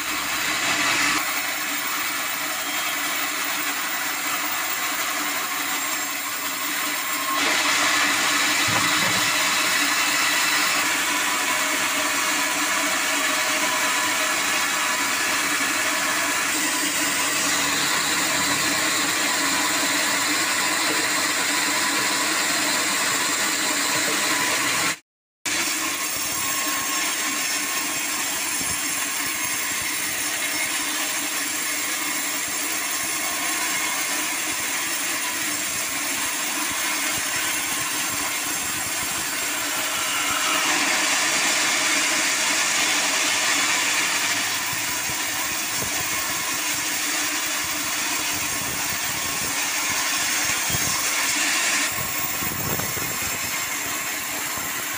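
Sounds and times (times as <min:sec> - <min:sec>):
band saw cutting log: 0:00.0 - 0:54.9.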